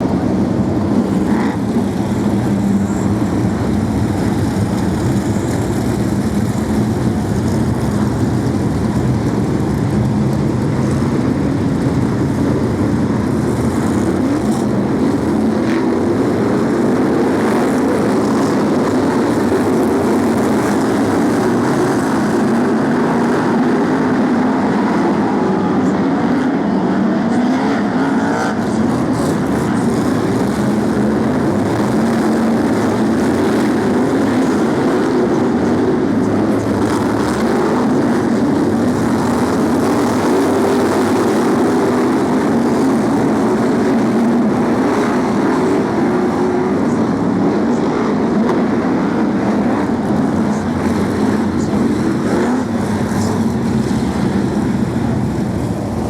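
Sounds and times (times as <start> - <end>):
stock car engines racing: 0.0 - 56.0.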